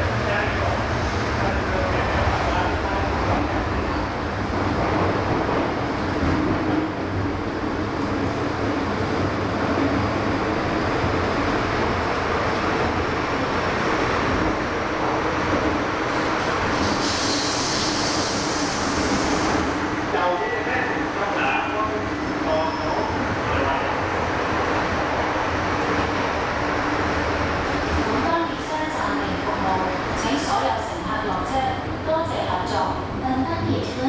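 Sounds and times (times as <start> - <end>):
train rumble and hum: 0.0 - 34.0.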